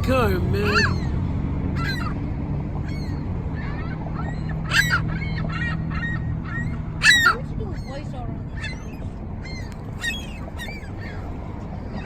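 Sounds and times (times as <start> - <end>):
seagulls calling: 0.0 - 12.0.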